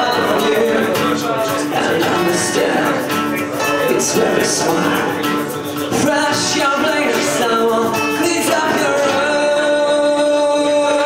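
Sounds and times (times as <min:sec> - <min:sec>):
band playing: 0:00.0 - 0:11.0
person singing: 0:00.0 - 0:11.0.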